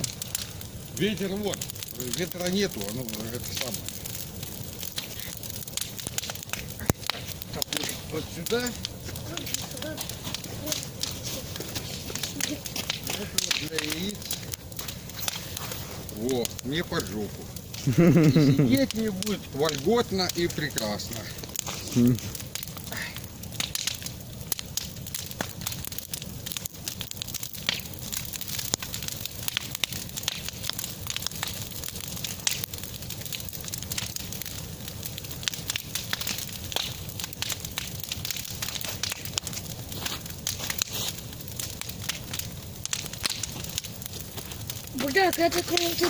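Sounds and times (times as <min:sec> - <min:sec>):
bonfire crackling and popping: 0:00.0 - 0:46.0.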